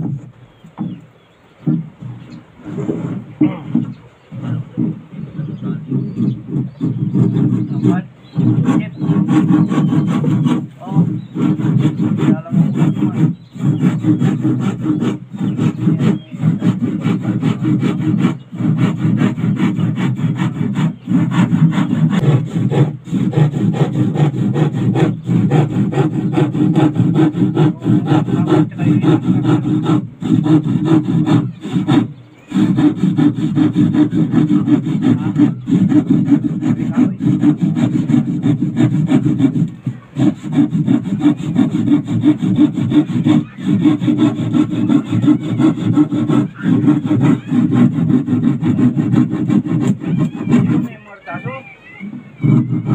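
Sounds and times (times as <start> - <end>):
handsaw cutting plywood: 1.6 - 52.9.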